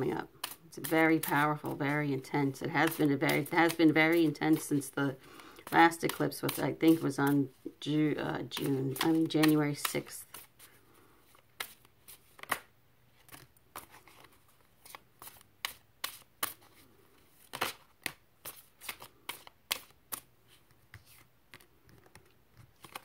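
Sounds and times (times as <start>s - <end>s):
cards being shuffled: 0.0s - 7.8s, 8.4s - 23.0s.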